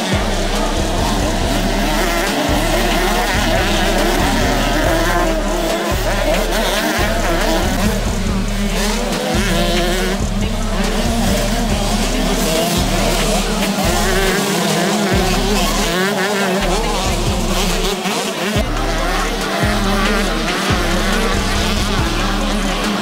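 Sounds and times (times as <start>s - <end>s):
background music with bass line: 0.0s - 23.0s
motocross bikes revving: 0.0s - 23.0s.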